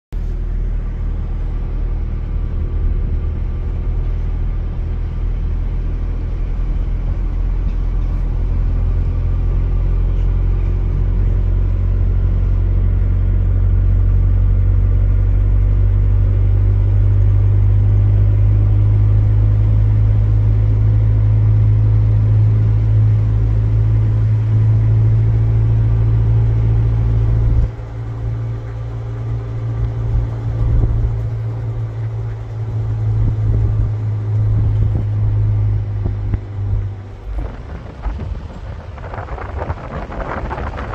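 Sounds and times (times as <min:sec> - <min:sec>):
road noise: 0:00.0 - 0:40.9
vehicle engine rumble: 0:00.0 - 0:40.9.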